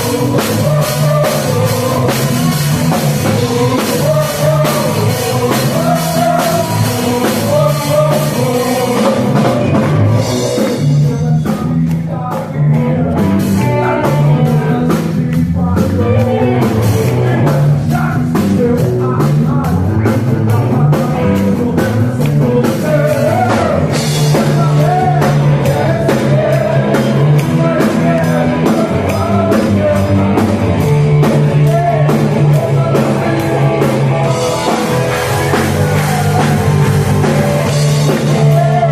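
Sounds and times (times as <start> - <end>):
drum kit: 0.0 - 38.9
electric guitar: 0.0 - 38.9
person singing: 0.0 - 38.9.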